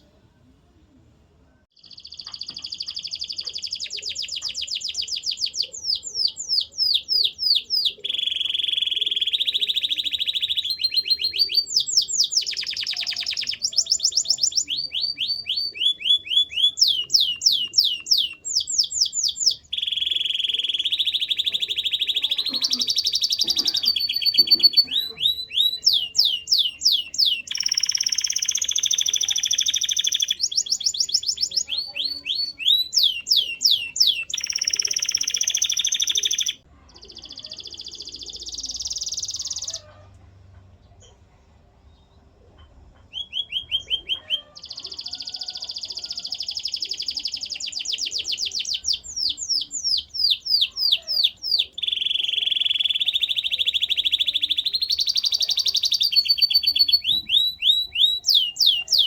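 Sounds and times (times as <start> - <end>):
canary singing fast trills: 1.8 - 40.0, 43.1 - 59.0.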